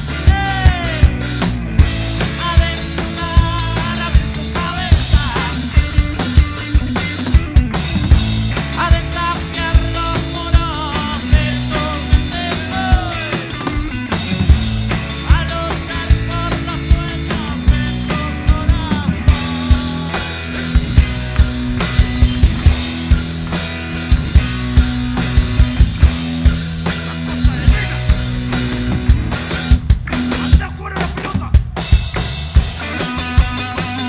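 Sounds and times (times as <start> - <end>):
bass guitar: 0.0 - 34.0
drum kit beats: 0.0 - 34.0
electric guitars: 0.0 - 34.0.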